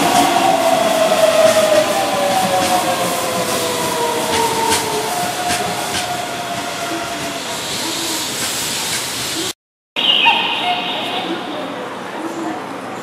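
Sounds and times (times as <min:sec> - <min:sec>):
whining train tones: 0:00.0 - 0:12.4
train rail noise: 0:00.0 - 0:13.0.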